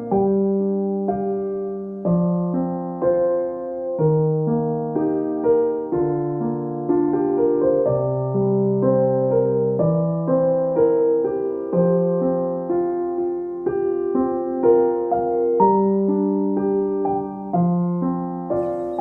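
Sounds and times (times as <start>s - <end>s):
soft solo piano: 0.0s - 19.0s.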